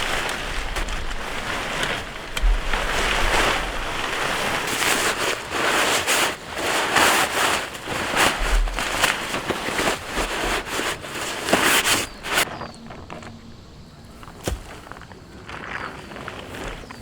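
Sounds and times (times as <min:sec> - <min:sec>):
rain pattering on tarp: 0:00.0 - 0:12.6, 0:14.1 - 0:17.0.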